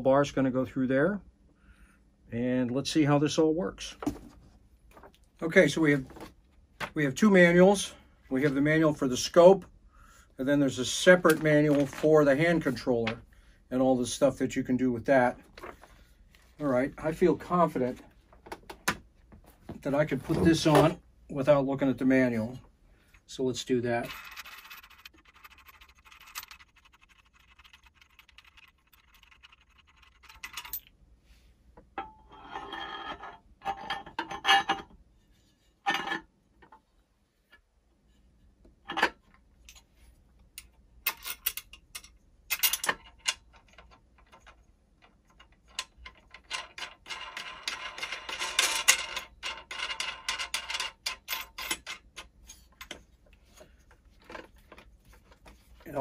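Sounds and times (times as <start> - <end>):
clattering and rubbing: 3.9 - 9.4, 10.7 - 13.3, 15.1 - 21.0, 22.2 - 56.0.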